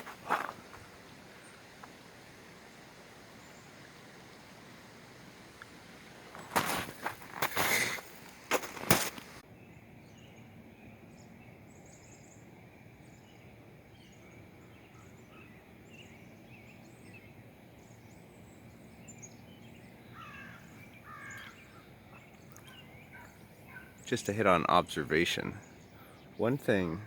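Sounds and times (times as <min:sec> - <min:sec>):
birds chirping: 0:00.0 - 0:27.0
faint outdoor background: 0:00.0 - 0:27.0.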